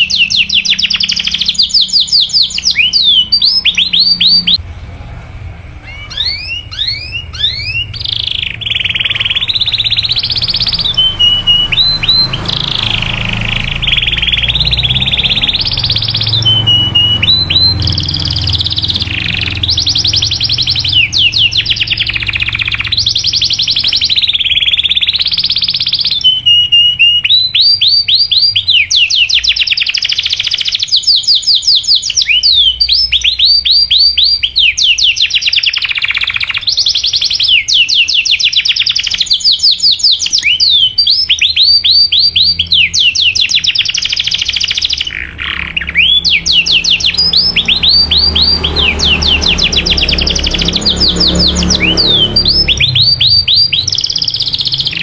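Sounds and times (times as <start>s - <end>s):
canary singing: 0.0s - 4.6s, 5.8s - 55.0s.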